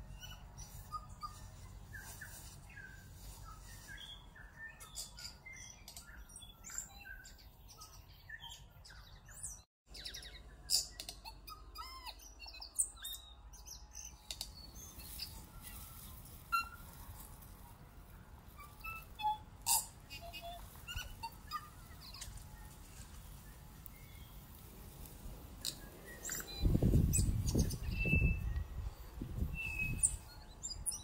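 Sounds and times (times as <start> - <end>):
birds chirping and whistling: 0.0 - 17.3, 18.5 - 24.6, 25.6 - 31.0.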